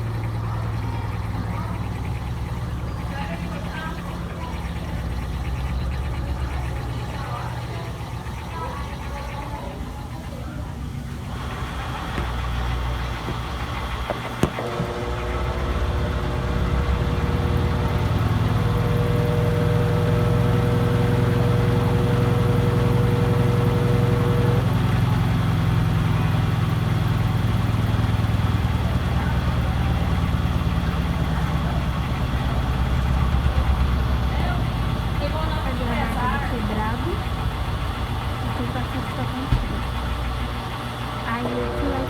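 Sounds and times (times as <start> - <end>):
steady whine: 0.0 - 42.0
washing machine spinning: 0.0 - 42.0.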